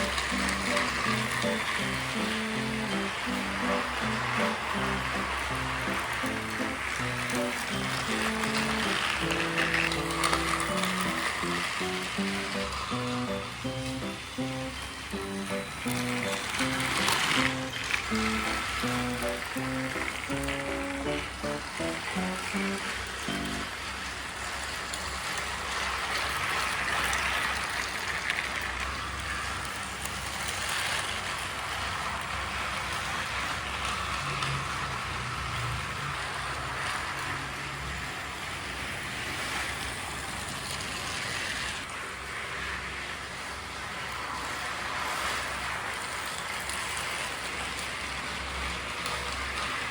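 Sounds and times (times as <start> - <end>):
toy train motor whirring: 0.0 - 49.9
toy train wheels rattling: 0.0 - 49.9.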